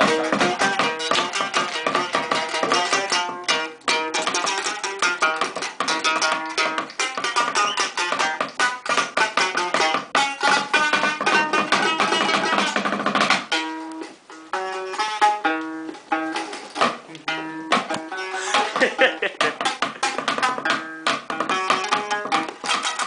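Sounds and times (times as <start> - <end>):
light percussion: 0.0 - 23.0
plucked string instrument music: 0.0 - 23.0.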